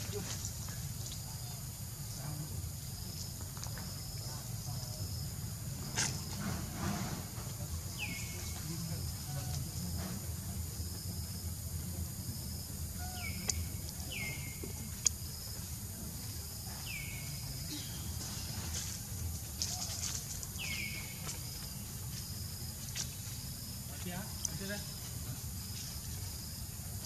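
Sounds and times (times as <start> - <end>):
pulsing insect hum: 0.0 - 27.0.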